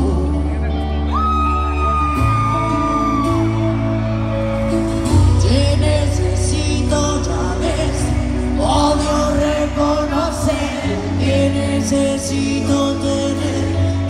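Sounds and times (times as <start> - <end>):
person singing: 0.0 - 14.0
pop-rock band playing: 0.0 - 14.0.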